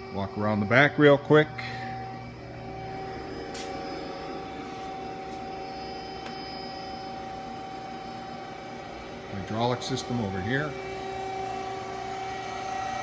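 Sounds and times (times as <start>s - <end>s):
machine tool humming: 0.0s - 13.0s.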